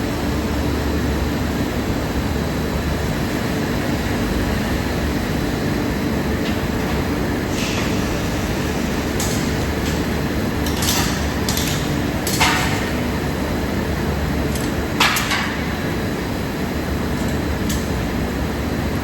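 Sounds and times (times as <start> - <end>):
steady machine noise: 0.0 - 19.0.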